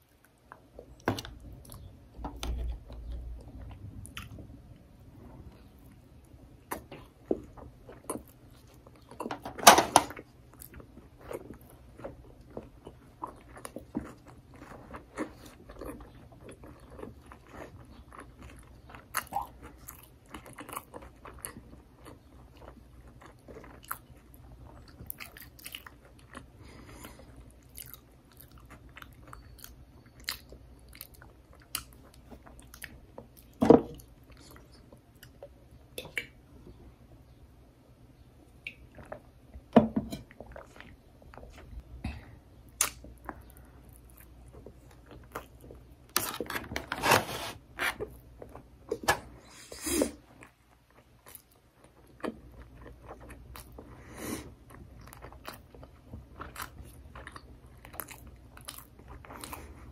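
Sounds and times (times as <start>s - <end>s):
person chewing food: 0.0s - 9.4s, 10.1s - 36.7s, 38.5s - 46.6s, 47.7s - 59.9s.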